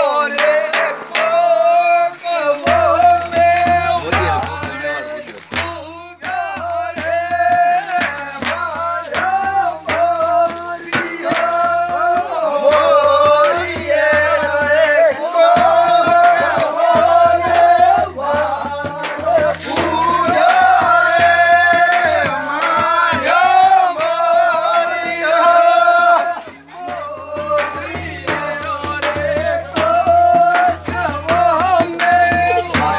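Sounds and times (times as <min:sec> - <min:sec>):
drum beats: 0:00.0 - 0:32.9
men singing folk song: 0:00.0 - 0:32.9.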